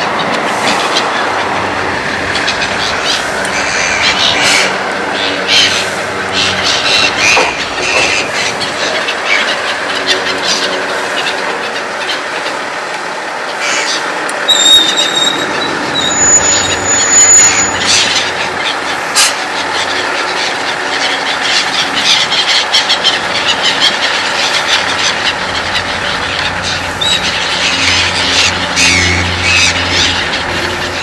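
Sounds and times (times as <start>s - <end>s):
freight train rolling past: 0.0s - 31.0s
wheels clicking over rail joints: 0.0s - 31.0s.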